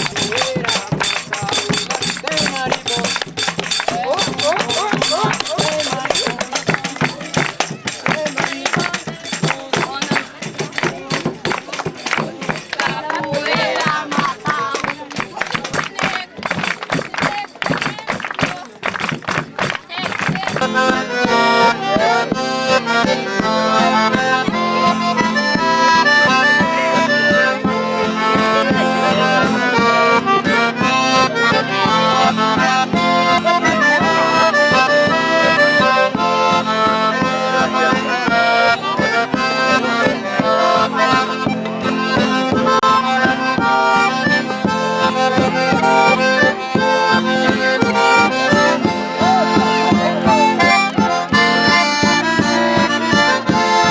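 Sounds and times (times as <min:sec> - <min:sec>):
accordion playing fast tune: 0:00.0 - 0:53.9.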